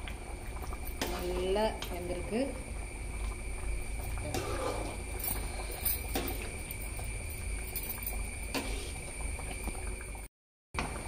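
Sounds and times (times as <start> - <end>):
gravy bubbling: 0.0 - 11.0.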